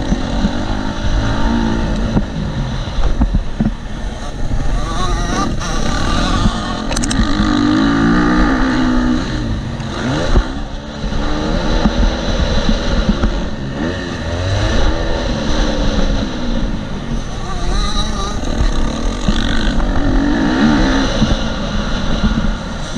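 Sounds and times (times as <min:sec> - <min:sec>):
motorcycle engine revving hard: 0:00.0 - 0:22.9.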